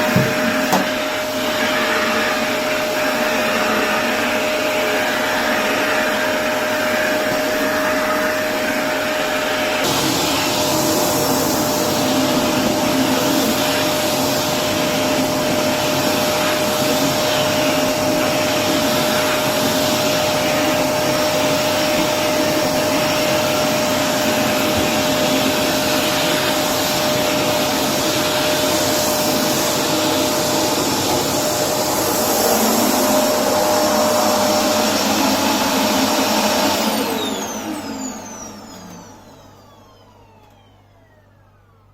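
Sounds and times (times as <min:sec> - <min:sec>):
vacuum cleaner whine: 0:00.0 - 0:41.9.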